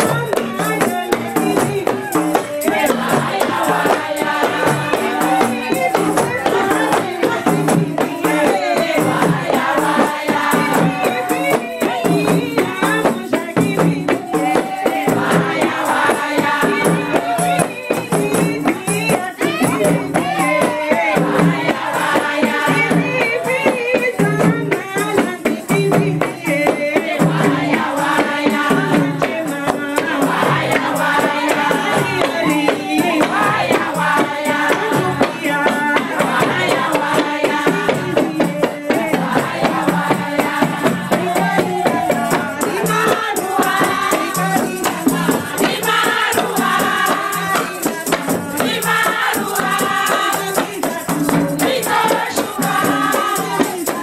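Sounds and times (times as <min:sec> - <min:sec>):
frame drums beating fast: 0:00.0 - 0:54.0.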